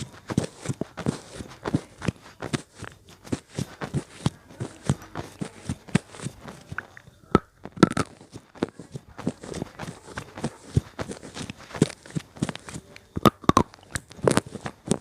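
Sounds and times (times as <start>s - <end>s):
pencil crunching when chewed: 0.0s - 15.0s.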